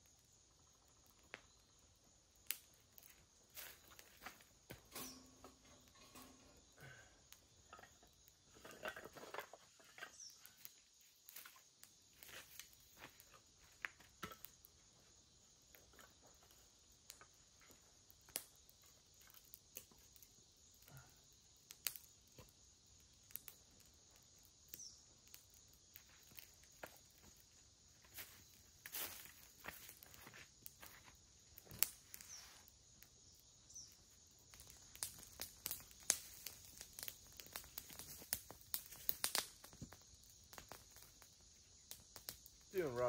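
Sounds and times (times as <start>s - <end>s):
campfire pops and crackles: 0.0s - 43.0s.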